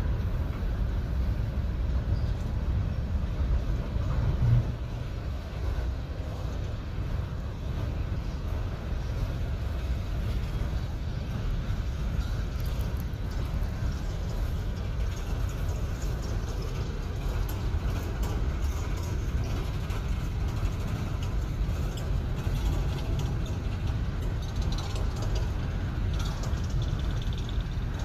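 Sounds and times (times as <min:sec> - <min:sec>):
train rumbling past: 0:00.0 - 0:28.0.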